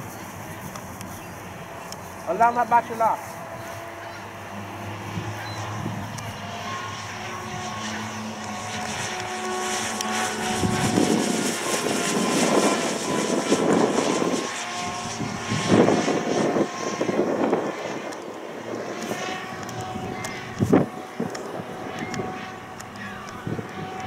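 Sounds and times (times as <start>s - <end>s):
model plane motor whine: 0.0s - 24.0s.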